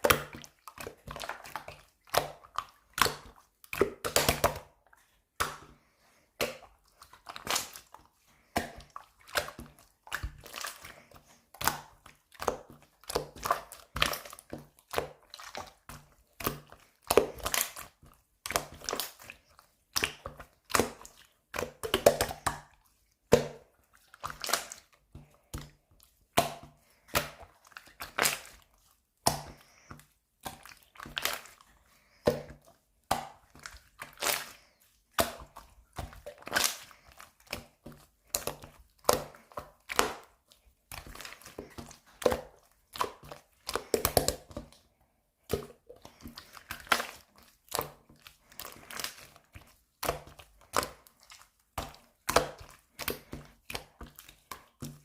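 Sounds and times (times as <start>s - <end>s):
slime squished by hand: 0.0s - 55.0s.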